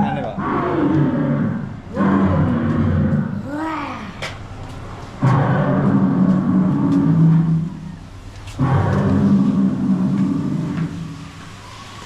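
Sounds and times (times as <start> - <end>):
long low roars: 0.0 - 4.2, 5.2 - 11.6.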